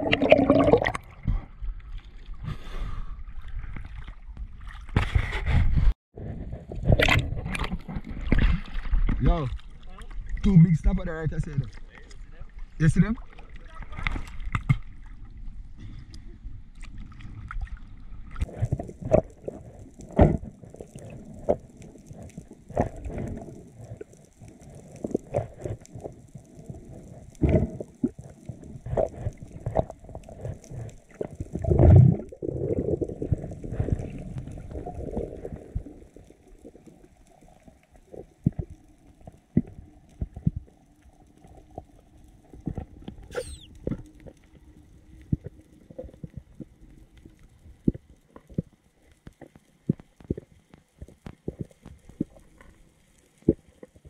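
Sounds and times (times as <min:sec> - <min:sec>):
muffled underwater rush: 0:00.0 - 0:49.1.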